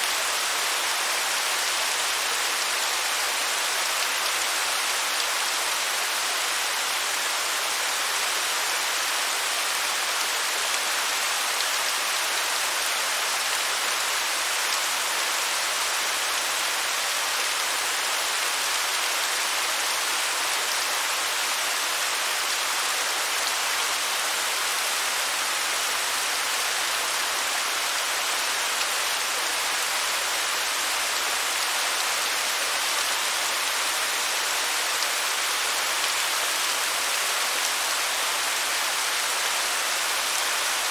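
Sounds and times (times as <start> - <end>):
waterfall hissing: 0.0 - 40.9.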